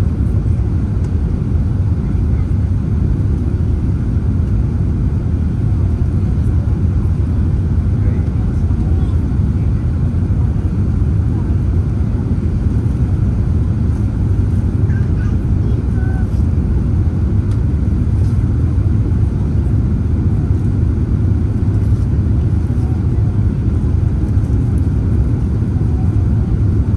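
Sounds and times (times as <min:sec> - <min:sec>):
jet engines rumbling: 0:00.0 - 0:26.9.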